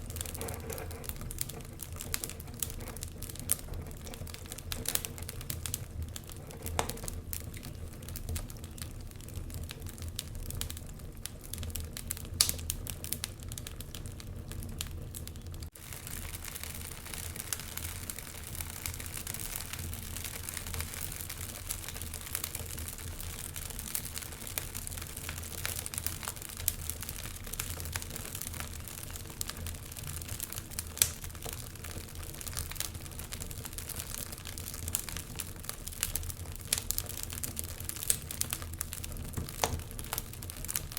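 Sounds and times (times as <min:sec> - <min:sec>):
fire hiss and low rumble: 0:00.0 - 0:40.9
wood fire crackling and popping: 0:00.0 - 0:40.9.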